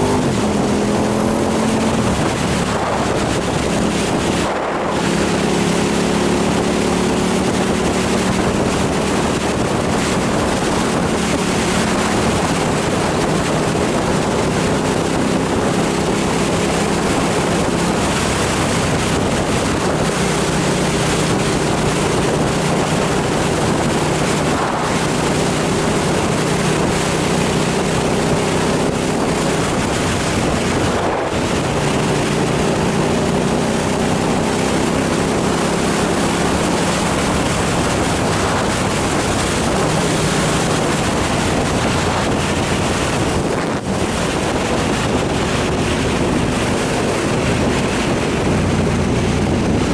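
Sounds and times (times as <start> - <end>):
motorcycle engine running: 0.0 - 49.9
wind rush over microphone: 0.0 - 49.9.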